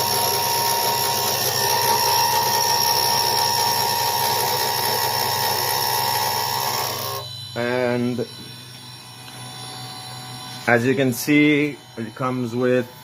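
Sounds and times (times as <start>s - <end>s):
cnc spindle whining: 0.0s - 13.0s
cutter milling metal: 0.0s - 13.0s.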